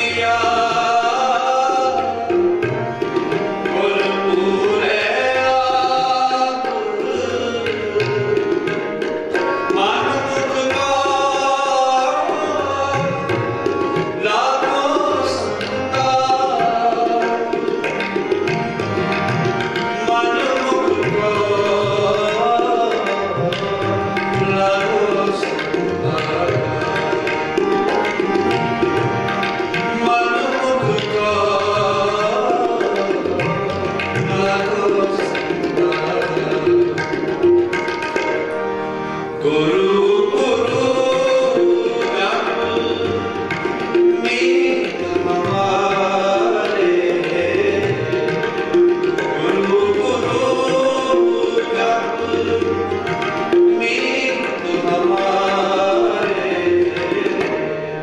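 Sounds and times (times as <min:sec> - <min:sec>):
harmonium chords: 0:00.0 - 0:58.0
tabla strokes: 0:00.0 - 0:58.0.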